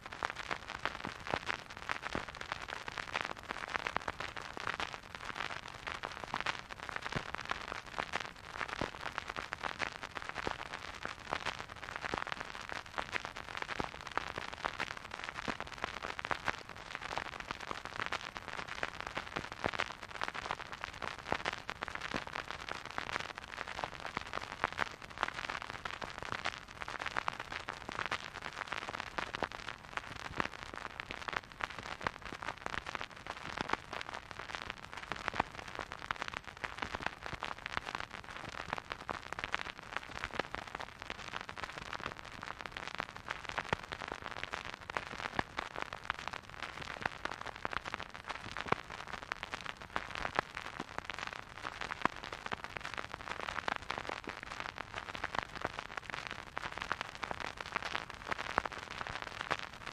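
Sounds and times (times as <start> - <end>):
vinyl crackle and hiss: 0.0 - 59.9.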